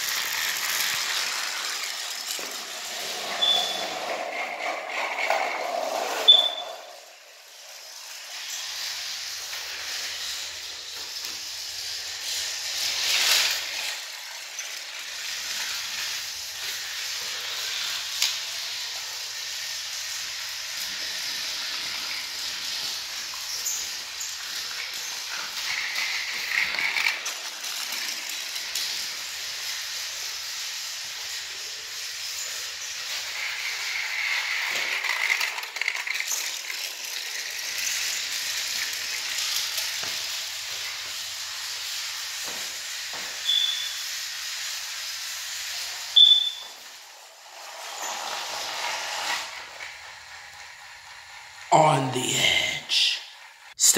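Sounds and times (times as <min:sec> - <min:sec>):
toy train motor whirring: 0:00.0 - 0:53.9.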